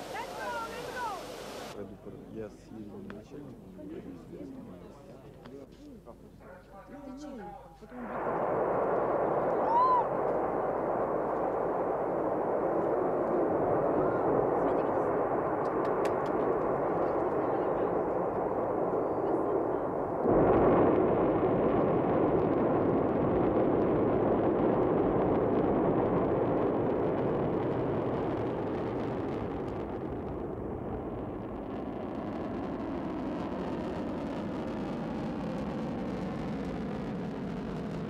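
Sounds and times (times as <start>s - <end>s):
rocket engines roaring: 0.0s - 1.8s, 8.0s - 38.0s.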